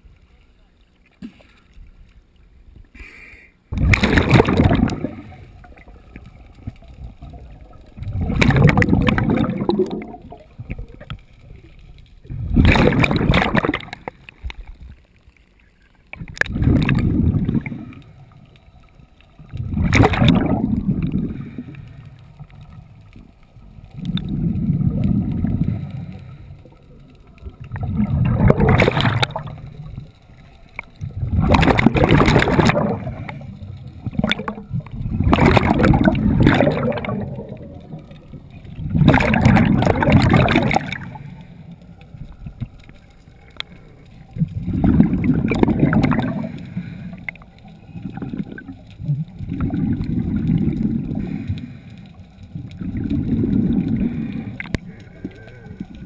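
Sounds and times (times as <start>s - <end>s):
underwater bubbles exhaling: 3.7s - 15.0s, 16.1s - 56.0s.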